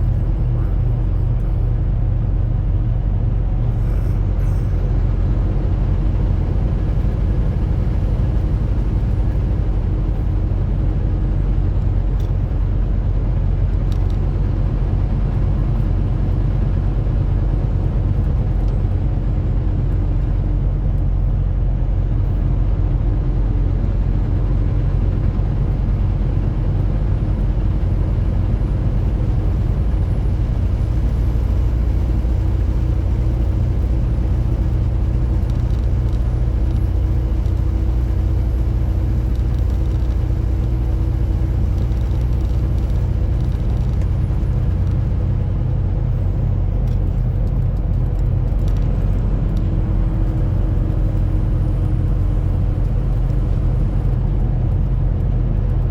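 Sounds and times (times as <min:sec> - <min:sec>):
truck engine and road rumble: 0:00.0 - 0:55.9.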